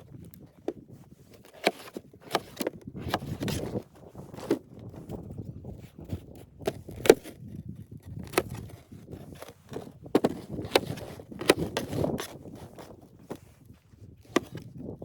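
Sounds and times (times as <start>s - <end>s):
sharp knocks and crunching: 0.1s - 15.0s.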